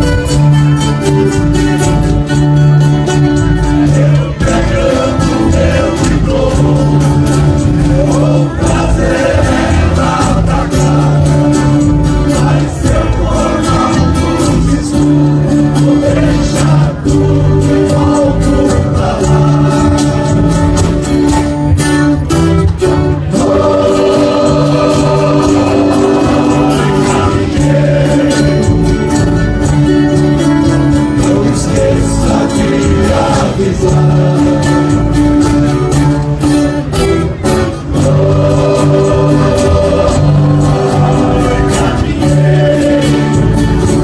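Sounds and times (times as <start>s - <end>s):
acoustic string ensemble playing: 0.0s - 44.0s
men singing together: 3.6s - 21.3s, 23.3s - 36.2s, 37.7s - 44.0s.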